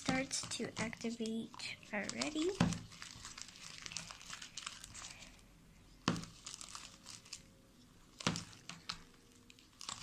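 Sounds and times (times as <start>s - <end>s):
slime squishing in bowl: 0.0s - 5.3s, 6.0s - 10.0s.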